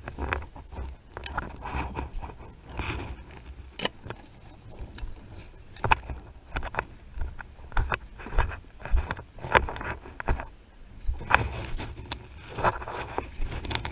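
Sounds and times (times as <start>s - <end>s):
footsteps on muddy lane: 0.0s - 13.9s
wind rumble on microphone: 0.0s - 13.9s.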